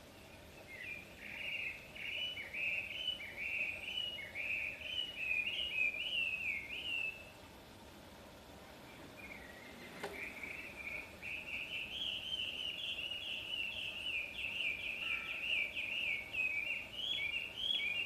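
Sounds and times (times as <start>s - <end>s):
bird chirping song: 0.0s - 7.5s, 8.8s - 18.0s.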